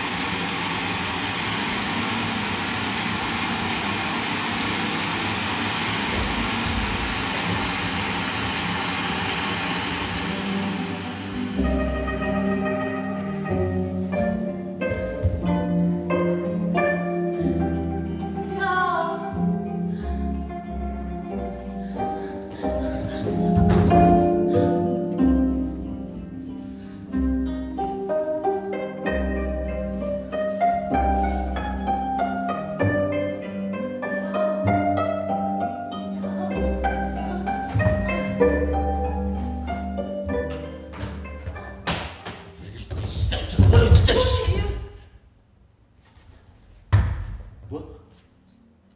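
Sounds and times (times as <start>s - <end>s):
plucked string music: 3.8s - 44.2s.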